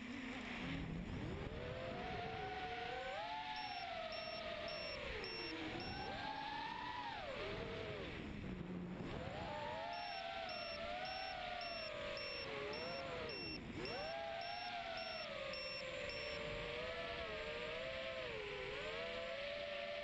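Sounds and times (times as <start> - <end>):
quadcopter motors whining: 2.1 - 7.9, 9.3 - 20.0.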